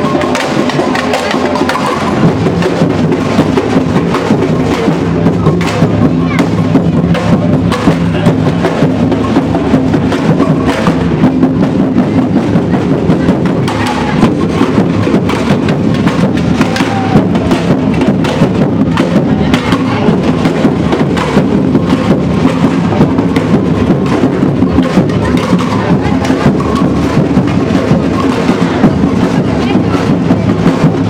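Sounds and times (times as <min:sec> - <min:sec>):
bass drums playing rhythm: 0:00.0 - 0:31.0
sharp knocking drum strokes: 0:00.0 - 0:31.0.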